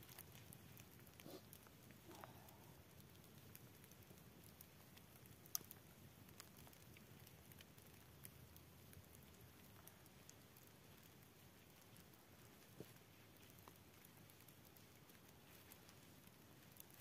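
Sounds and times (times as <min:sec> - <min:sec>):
faint background hiss: 0:00.0 - 0:17.0
small clicks and crackles: 0:00.0 - 0:17.0.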